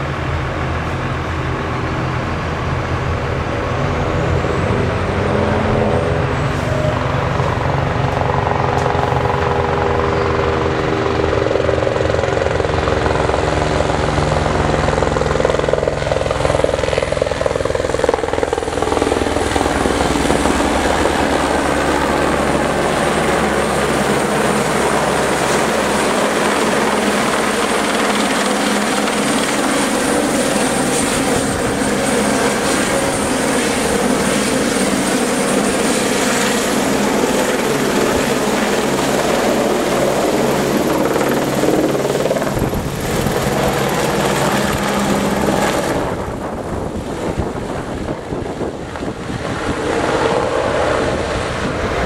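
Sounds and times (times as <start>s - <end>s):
helicopter rotor chop and whine: 0.0s - 52.0s.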